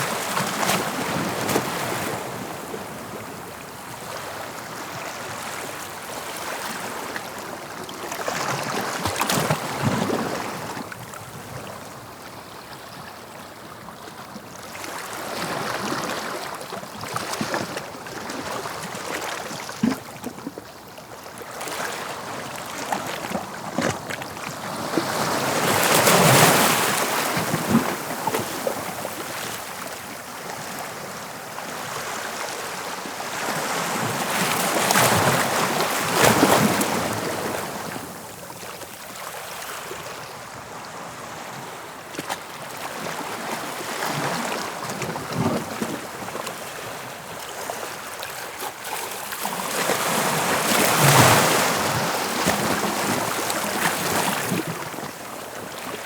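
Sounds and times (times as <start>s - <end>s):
sea waves breaking on shore: 0.0s - 11.6s, 21.3s - 56.0s.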